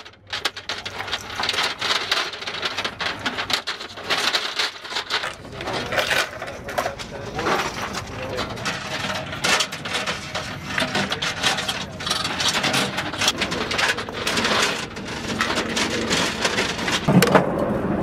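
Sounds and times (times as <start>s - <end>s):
ammunition belts rattling and clinking: 0.0s - 17.1s.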